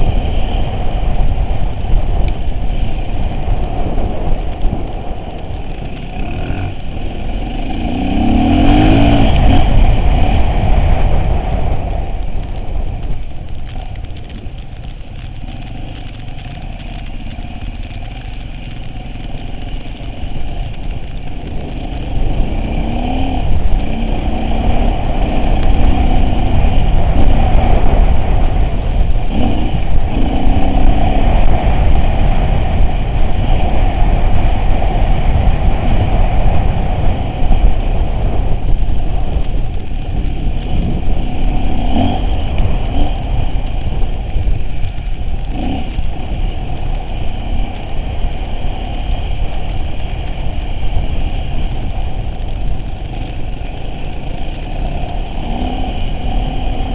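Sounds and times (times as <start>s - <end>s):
off-road vehicle engine running: 0.0s - 56.9s.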